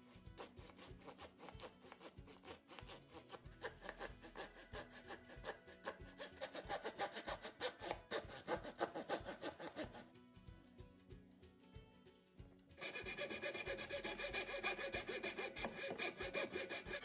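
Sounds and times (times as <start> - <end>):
hand saw cutting wood: 0.0 - 10.1, 12.8 - 17.0.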